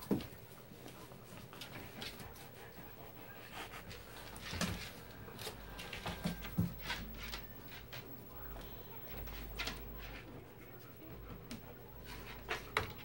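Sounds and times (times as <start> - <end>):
animals scuffling: 0.0 - 13.0
dog panting: 0.3 - 13.0.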